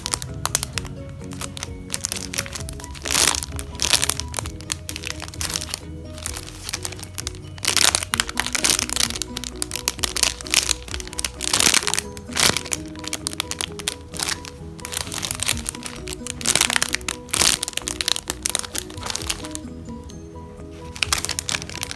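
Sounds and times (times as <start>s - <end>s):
plastic crinkling: 0.0s - 19.7s, 20.7s - 21.9s
background music: 0.0s - 21.9s.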